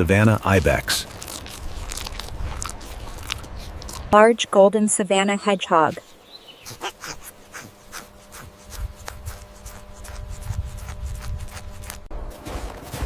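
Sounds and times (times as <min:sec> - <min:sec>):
hedgehog scratching and rustling: 0:00.0 - 0:04.2, 0:05.8 - 0:12.1
faint steady hum: 0:00.0 - 0:12.3.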